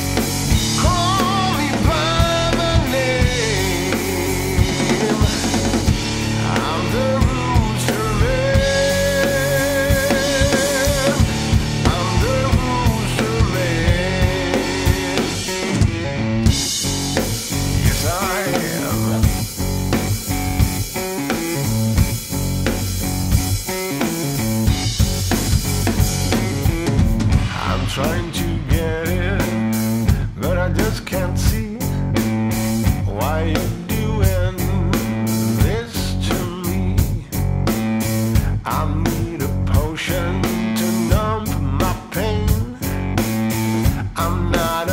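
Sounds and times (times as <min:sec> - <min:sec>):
blues-rock song: 0:00.0 - 0:44.9
drum kit beat: 0:00.0 - 0:44.9
guitar: 0:00.0 - 0:44.9.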